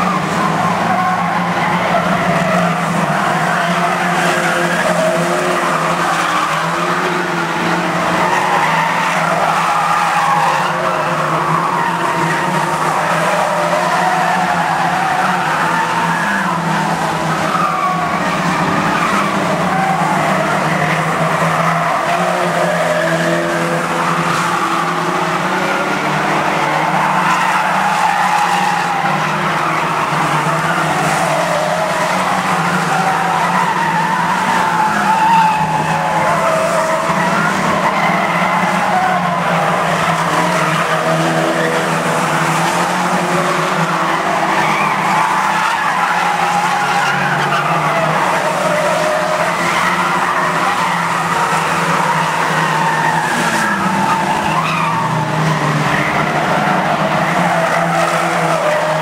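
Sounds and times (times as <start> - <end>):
racing car engines revving: 0.0 - 59.0
tyres skidding and squealing: 0.0 - 59.0.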